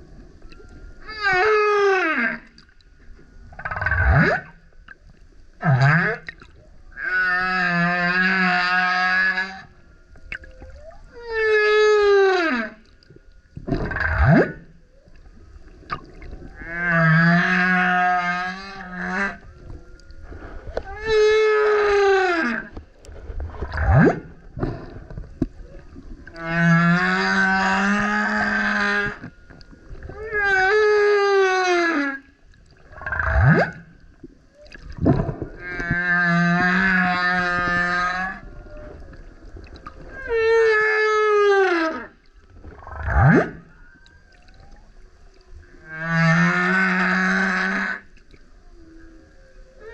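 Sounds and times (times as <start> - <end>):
humpback whale singing: 0.4 - 4.8, 5.5 - 49.9.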